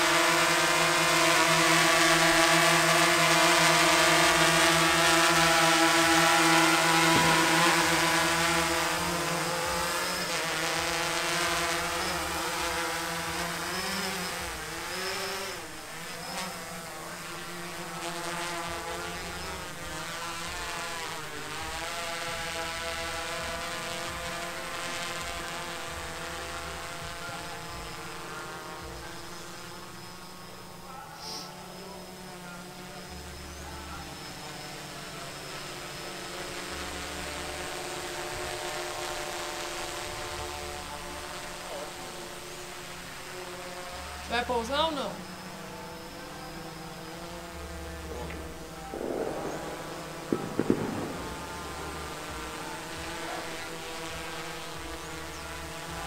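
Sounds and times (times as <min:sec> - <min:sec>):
quadcopter propellers buzzing: 0:00.0 - 0:56.0.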